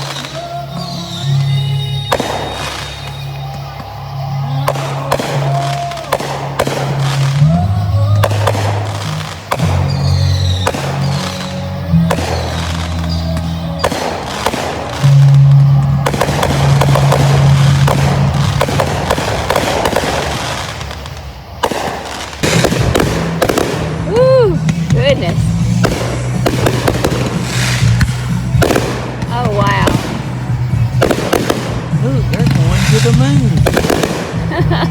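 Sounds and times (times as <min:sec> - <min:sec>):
fireworks bangs and crackling: 0:00.0 - 0:34.9
music playing: 0:00.0 - 0:34.9.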